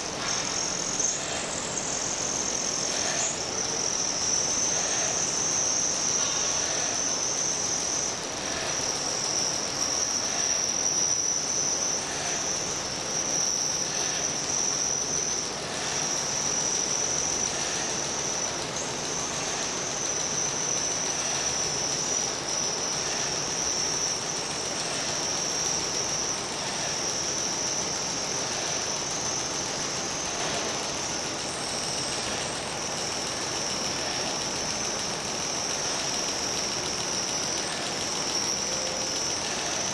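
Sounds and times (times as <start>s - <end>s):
electric motors whining: 0.1s - 39.9s.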